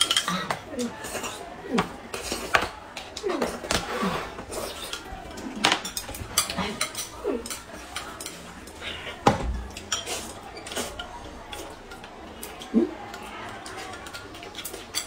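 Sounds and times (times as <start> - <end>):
chopsticks clicking on plates: 0.0 - 15.0.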